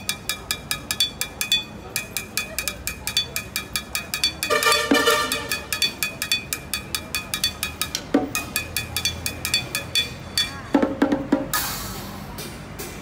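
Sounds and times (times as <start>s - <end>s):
sticks drumming on pots and pans: 0.0s - 11.7s.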